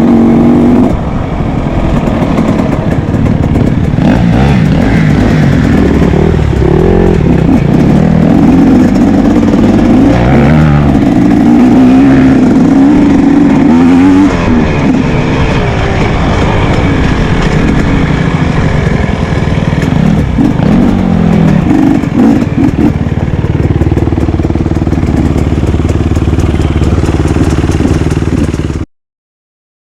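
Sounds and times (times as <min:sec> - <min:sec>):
motorcycle engines revving: 0:00.0 - 0:28.8.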